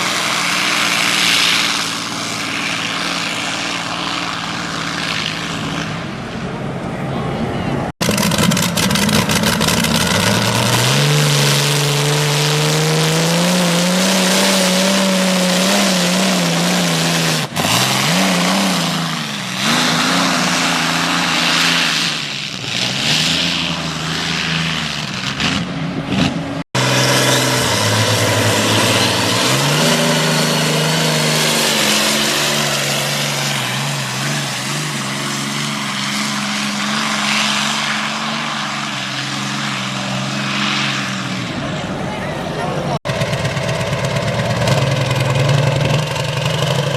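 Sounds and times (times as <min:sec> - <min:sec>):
tractor engine under full load: 0:00.0 - 0:46.9.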